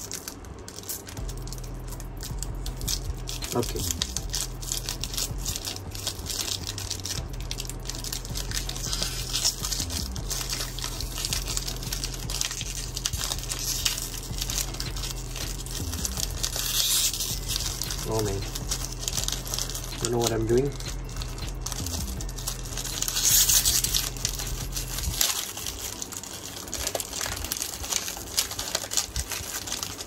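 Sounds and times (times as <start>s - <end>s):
plastic packaging crinkling: 0.0s - 30.0s.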